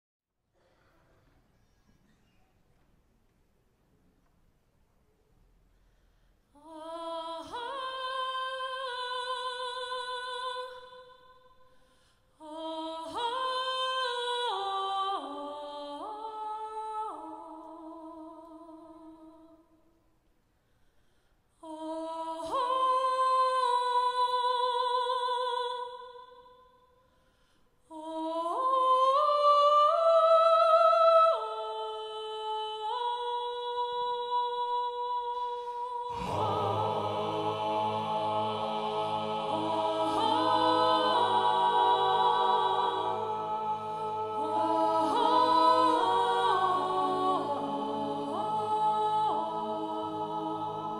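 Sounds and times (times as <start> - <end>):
a cappella ensemble singing chords: 5.7 - 20.0, 20.6 - 50.9.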